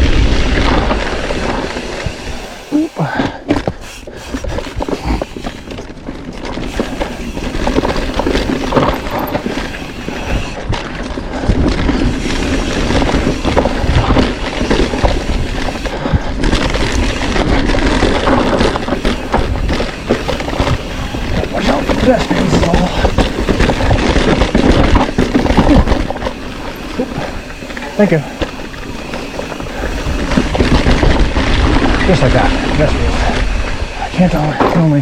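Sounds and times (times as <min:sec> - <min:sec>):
bike rattling over bumps: 0:00.0 - 0:35.0
bike tyres on dirt trail: 0:00.0 - 0:35.0
wind rumbling on microphone: 0:00.0 - 0:35.0.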